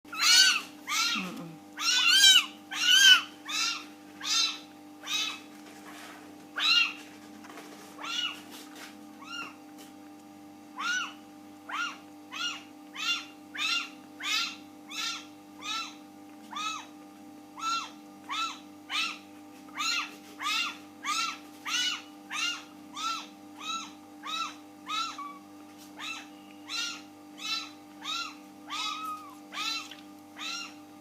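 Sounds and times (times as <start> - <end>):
kittens meowing: 0.1 - 5.4, 6.6 - 7.0, 8.0 - 8.4, 9.2 - 9.6, 10.8 - 16.9, 17.6 - 30.8
steady low hum: 0.1 - 31.0.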